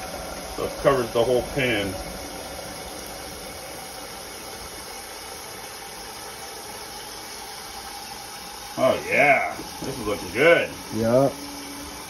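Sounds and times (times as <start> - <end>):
constant hiss: 0.0 - 12.0
whirring hum: 0.0 - 12.0.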